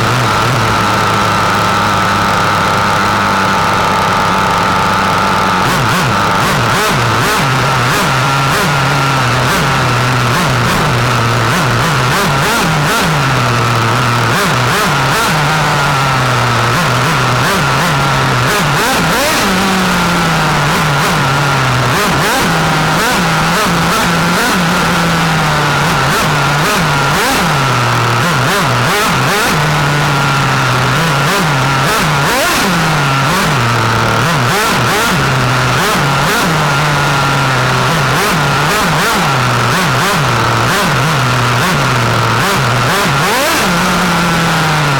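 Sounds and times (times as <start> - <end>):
small rc car engine revving: 0.0 - 44.9.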